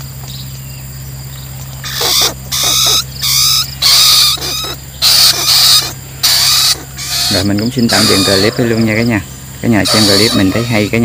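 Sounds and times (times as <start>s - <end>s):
insect drone: 0.0s - 11.0s
rats squealing: 1.8s - 11.0s.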